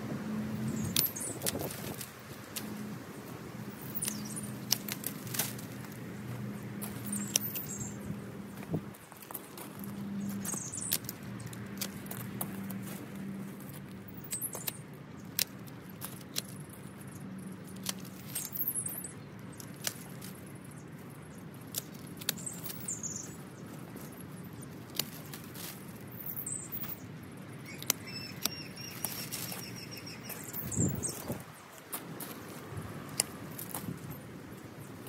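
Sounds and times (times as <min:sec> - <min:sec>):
hand weeding scratching and rustling: 0:00.6 - 0:35.0.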